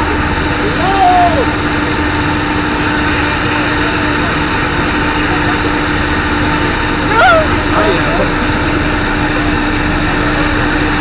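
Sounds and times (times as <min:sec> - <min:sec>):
heavy engines droning: 0:00.0 - 0:11.0.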